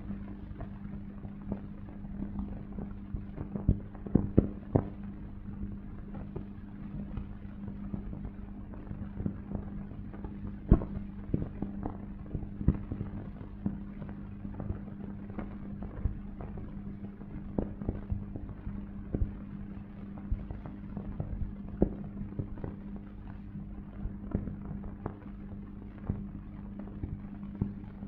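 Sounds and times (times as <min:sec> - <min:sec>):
film noise clicks and pops: 0:00.0 - 0:28.0
low mains hum: 0:00.0 - 0:28.0.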